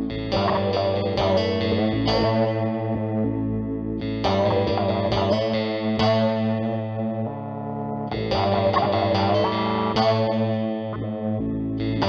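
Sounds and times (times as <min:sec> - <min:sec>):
electric guitar chords with effects: 0:00.0 - 0:12.0.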